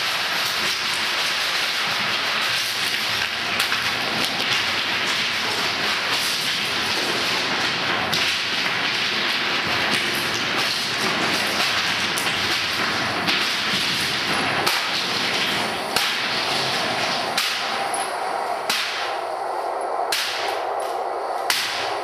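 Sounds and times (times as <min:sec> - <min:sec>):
sharp cracks: 0:00.0 - 0:18.0, 0:18.6 - 0:19.2, 0:20.1 - 0:22.0
dense rushing hiss: 0:00.0 - 0:22.0.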